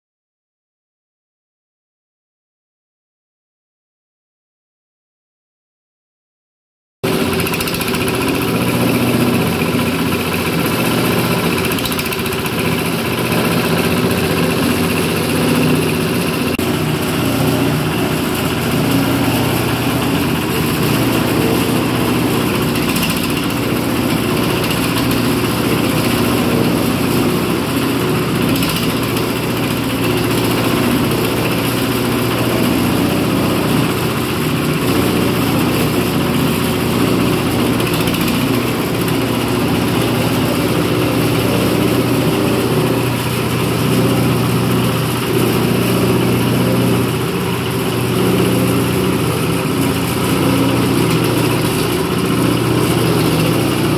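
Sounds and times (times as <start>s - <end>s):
small diesel engine running: 7.0s - 53.9s.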